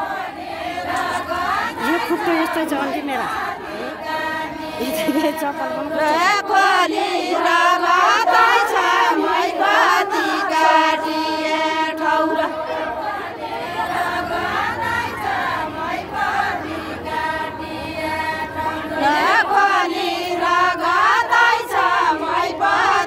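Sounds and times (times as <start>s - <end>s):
women singing folk song in chorus: 0.0s - 23.0s.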